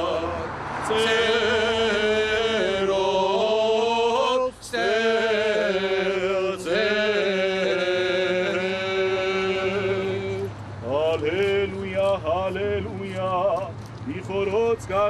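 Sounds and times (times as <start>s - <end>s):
men chanting a hymn: 0.0s - 15.0s.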